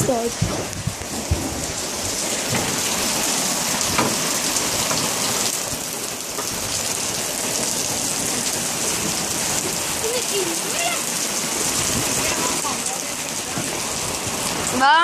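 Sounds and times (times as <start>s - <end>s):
raindrops hitting close by: 0.0s - 15.0s
steady rain hiss: 0.0s - 15.0s.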